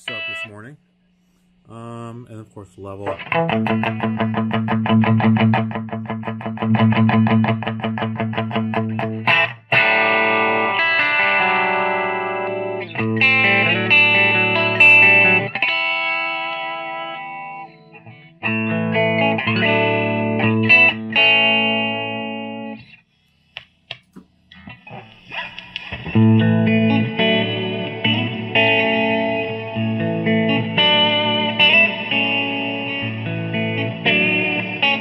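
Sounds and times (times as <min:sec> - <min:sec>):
electric guitar: 0:03.0 - 0:23.0, 0:24.0 - 0:35.0.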